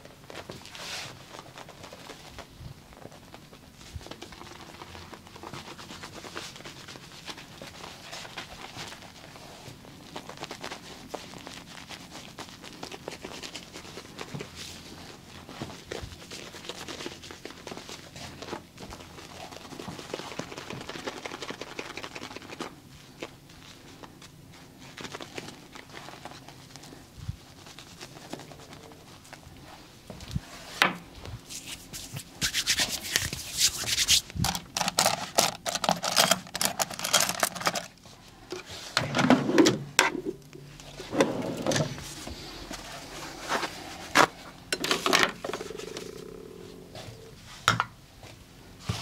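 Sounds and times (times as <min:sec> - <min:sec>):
scratchy crackling and rubbing: 0:00.0 - 0:30.8, 0:31.4 - 0:38.0, 0:40.5 - 0:47.5
faint low hum: 0:00.0 - 0:48.8.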